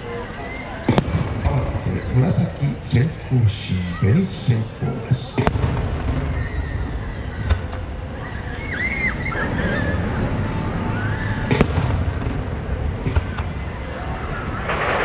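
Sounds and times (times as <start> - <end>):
low rumble: 1.0 - 15.0.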